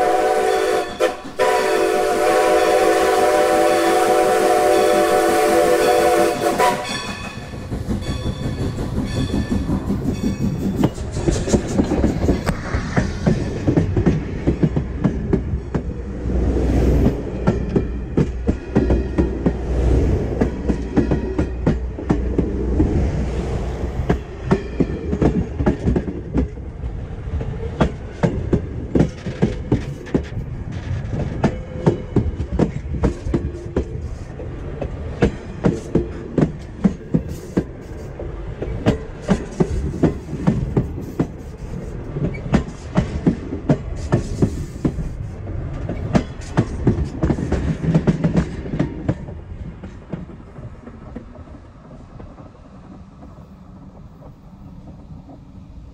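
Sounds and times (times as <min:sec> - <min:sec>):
train cars rumbling over rails: 0:00.0 - 0:55.9
train wheel clicks: 0:06.7 - 0:16.0, 0:17.0 - 0:23.0, 0:24.0 - 0:26.7, 0:27.3 - 0:55.6.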